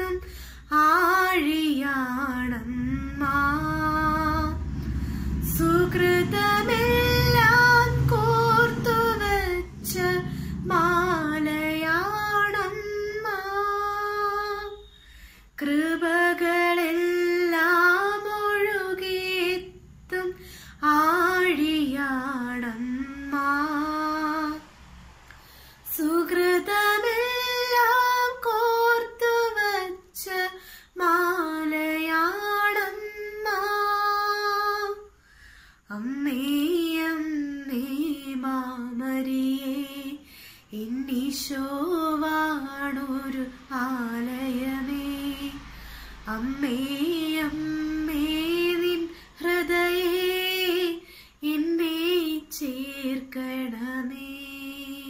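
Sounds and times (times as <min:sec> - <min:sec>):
woman singing a hymn: 0:00.0 - 0:15.0, 0:15.6 - 0:24.7, 0:25.9 - 0:35.1, 0:35.9 - 0:55.0.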